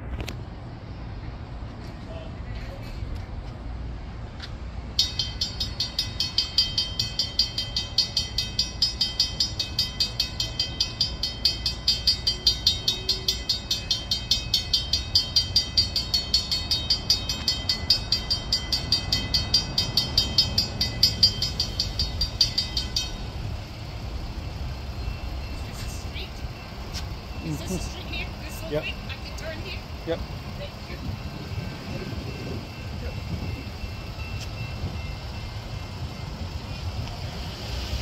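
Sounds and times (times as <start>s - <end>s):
railroad crossing bell ringing: 4.7s - 38.0s.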